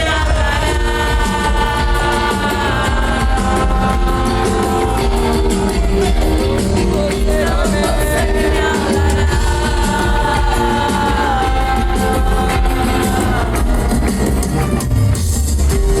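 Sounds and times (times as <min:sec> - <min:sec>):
live band playing slow song: 0:00.0 - 0:16.0.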